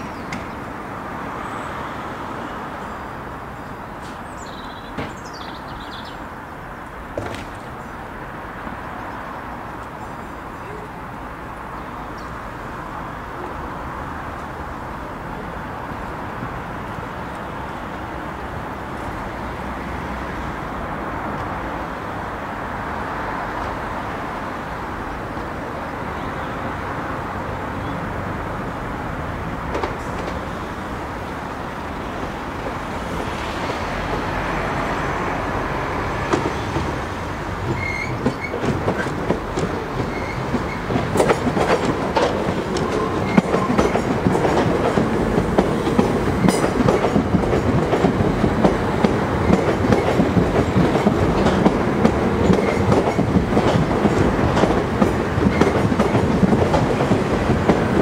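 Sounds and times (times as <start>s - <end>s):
distant traffic rush: 0.0s - 58.0s
outdoor background noise: 0.0s - 58.0s.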